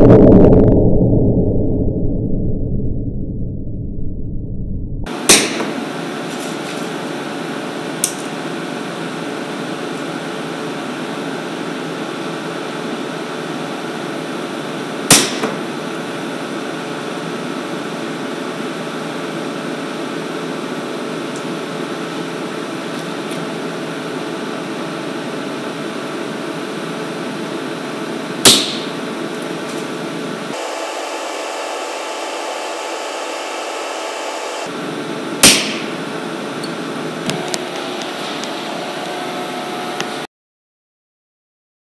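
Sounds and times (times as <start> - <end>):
machine hum: 0.0 - 40.3.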